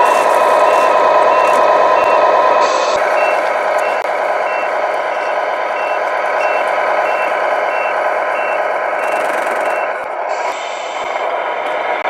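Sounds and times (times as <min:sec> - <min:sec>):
reversing beeper: 0:00.0 - 0:11.0
simulated truck engine: 0:00.0 - 0:12.0.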